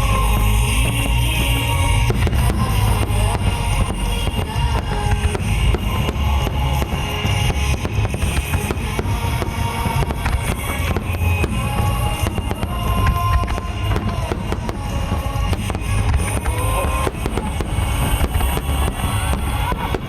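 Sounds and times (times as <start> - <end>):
firework bangs: 0.0 - 20.0
low rumble: 0.0 - 20.0
music playing: 0.0 - 20.0.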